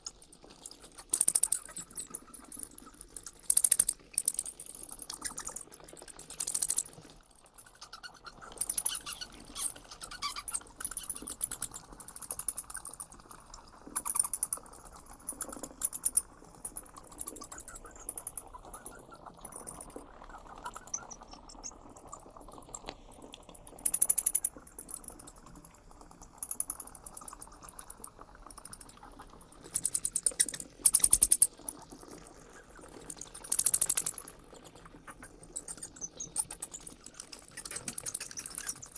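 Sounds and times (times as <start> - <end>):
bat calls clicking and chittering: 0.0 - 22.8, 26.4 - 38.9.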